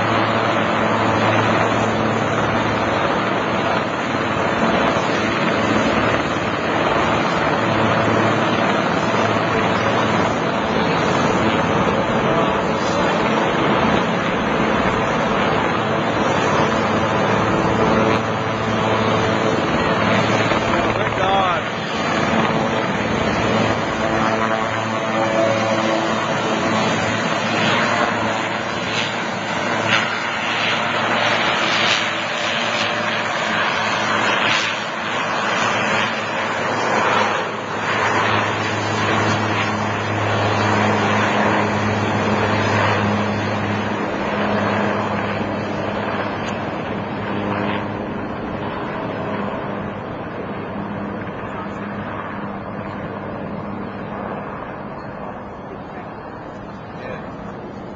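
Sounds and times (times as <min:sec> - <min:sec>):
helicopter rotor and engine: 0:00.0 - 0:57.9.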